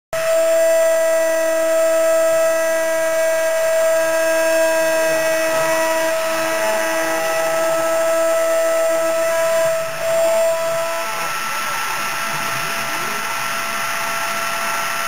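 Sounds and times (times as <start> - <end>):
router spindle whining: 0.2 - 15.0.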